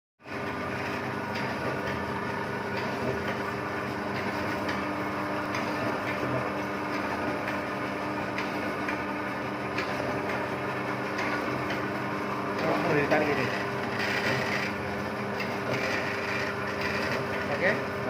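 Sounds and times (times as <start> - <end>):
machine humming: 0.2 - 18.0.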